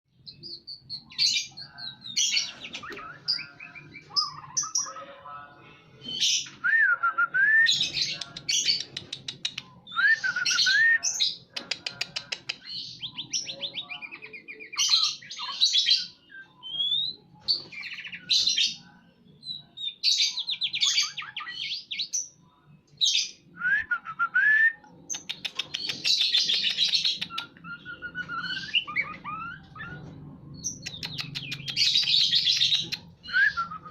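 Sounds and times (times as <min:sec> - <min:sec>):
songbird singing: 0:00.1 - 0:05.4, 0:06.1 - 0:33.9.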